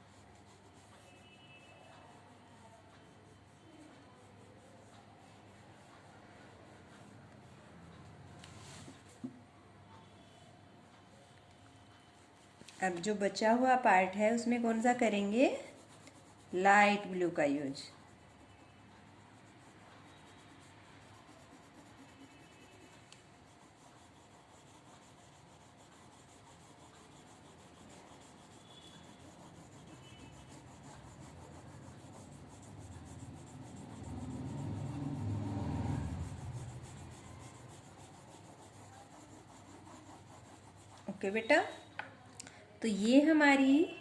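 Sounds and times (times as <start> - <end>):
pencil shading on paper: 0.0 - 9.4, 14.4 - 41.8.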